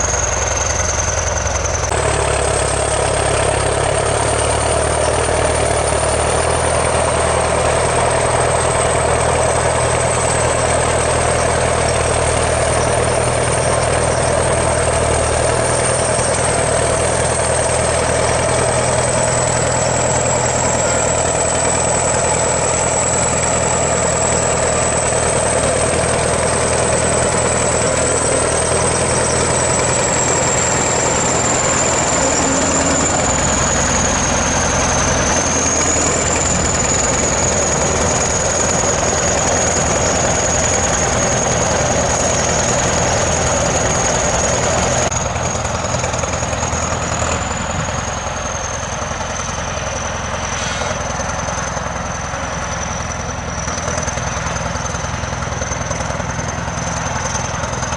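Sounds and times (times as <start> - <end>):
high whine: 0.0 - 53.8
bulldozer diesel engine running: 0.0 - 57.9.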